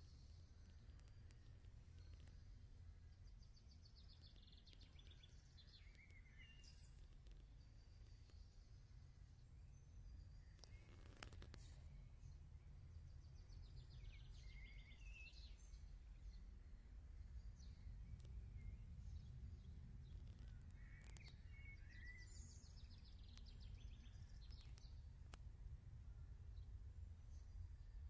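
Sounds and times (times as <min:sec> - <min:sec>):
faint songbirds trilling: 0:00.0 - 0:25.1.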